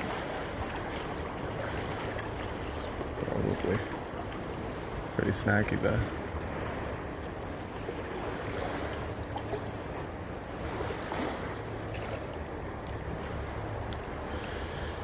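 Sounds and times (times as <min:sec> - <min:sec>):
water noise: 0:00.0 - 0:15.0
wind rumbling on microphone: 0:00.0 - 0:15.0.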